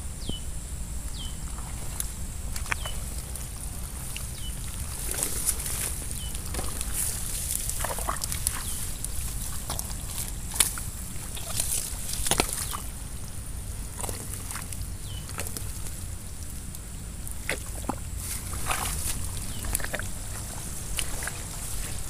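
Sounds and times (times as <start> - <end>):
mud squelching and sloshing: 1.3 - 22.0.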